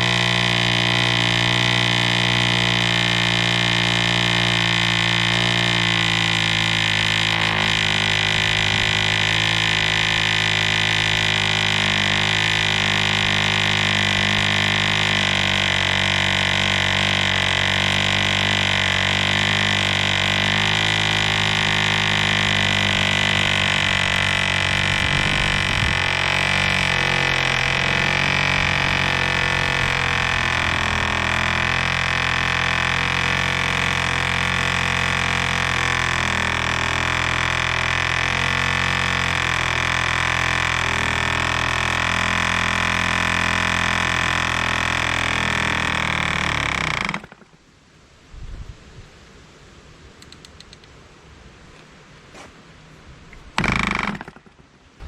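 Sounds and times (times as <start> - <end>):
model airplane engine running: 0.0 - 47.6, 53.6 - 55.0.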